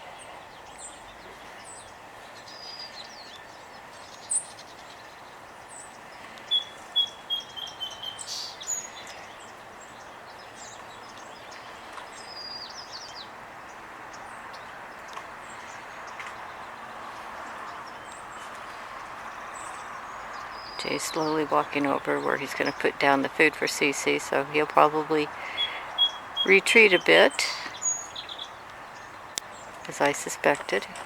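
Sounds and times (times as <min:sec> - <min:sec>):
songbirds chirping: 0:00.0 - 0:31.0
steady background noise: 0:00.0 - 0:31.0.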